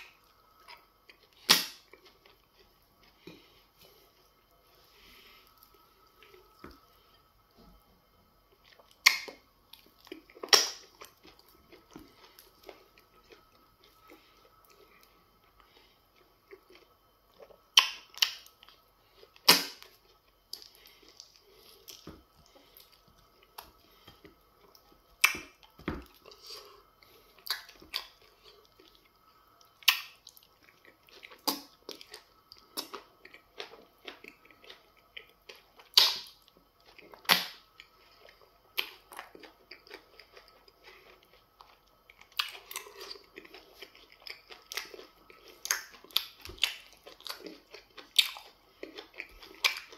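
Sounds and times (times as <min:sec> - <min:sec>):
person chewing: 0:00.0 - 0:07.7, 0:08.5 - 0:49.9.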